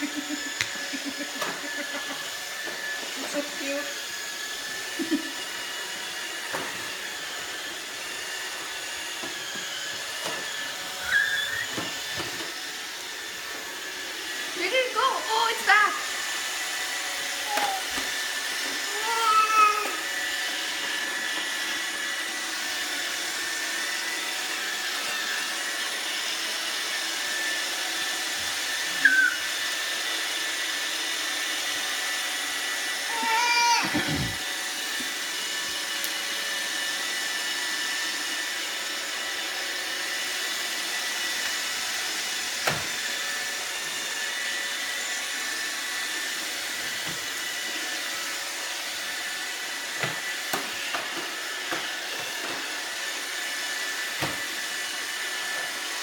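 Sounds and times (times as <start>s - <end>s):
robot vacuum running: 0.0s - 56.0s.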